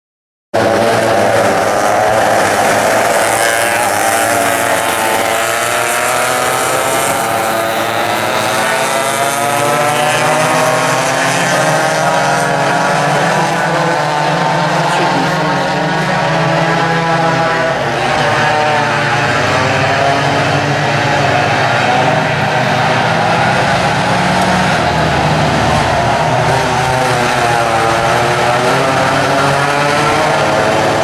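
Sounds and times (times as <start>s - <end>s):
two-stroke kart engines racing: 0.6s - 31.0s.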